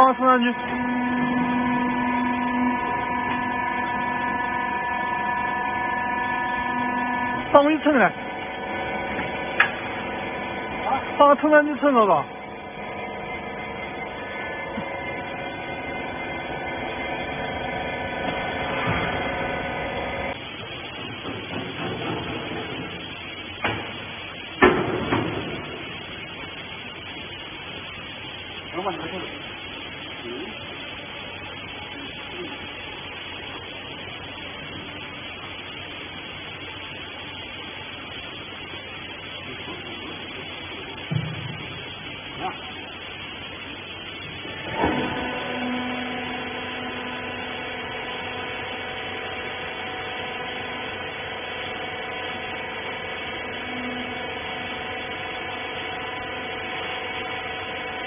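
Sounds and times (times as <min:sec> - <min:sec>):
baler machinery humming: 0:00.0 - 0:58.0
rough mechanical noise: 0:00.0 - 0:58.0.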